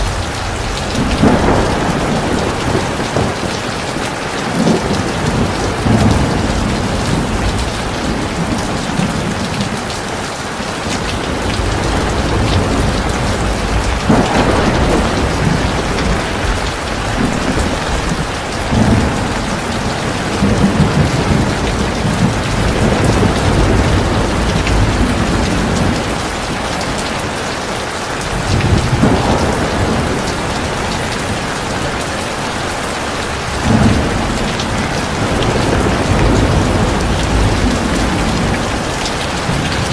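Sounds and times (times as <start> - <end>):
heavy rain hissing: 0.0 - 39.9
thunder rumbling: 0.0 - 39.9.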